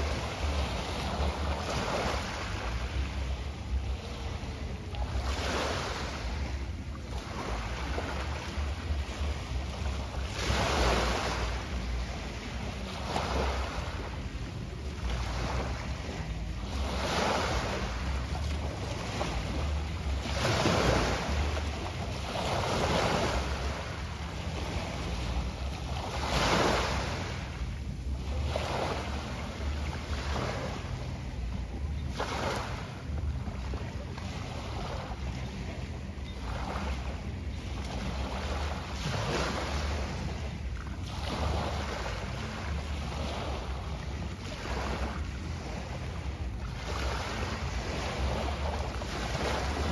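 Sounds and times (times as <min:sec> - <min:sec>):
small waves washing on shore: 0:00.0 - 0:49.9.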